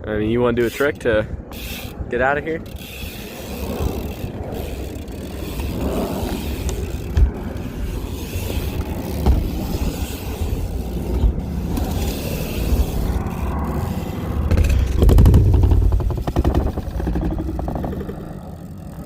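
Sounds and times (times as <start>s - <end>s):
wind rumble on microphone: 0.0s - 19.0s
bike tyres rolling on pavement: 1.5s - 19.0s
bike scraping clatter: 2.6s - 19.0s.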